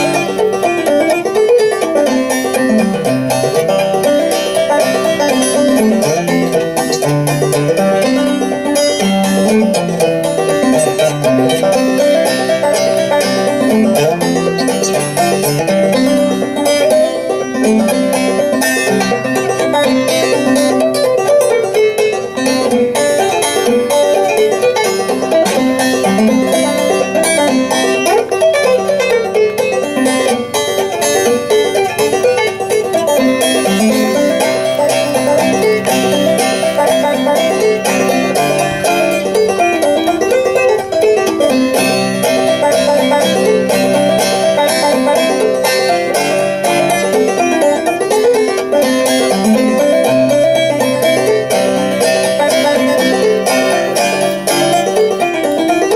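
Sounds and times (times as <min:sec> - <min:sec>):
banjo picking: 0:00.0 - 0:55.9.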